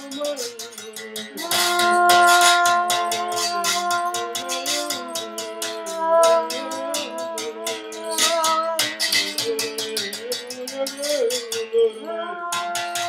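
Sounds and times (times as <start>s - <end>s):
berimbau struck in rhythm: 0.0s - 13.0s
wavering held tone: 0.0s - 13.0s.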